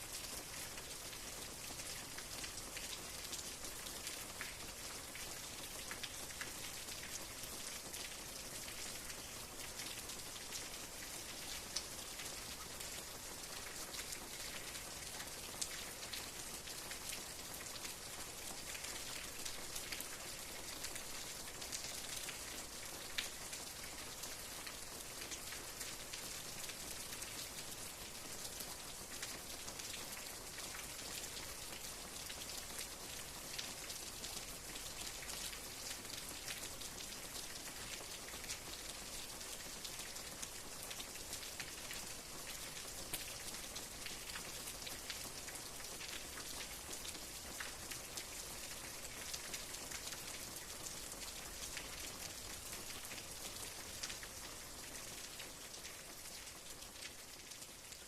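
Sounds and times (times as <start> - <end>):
rain drops ticking on a surface: 0.0 - 58.0.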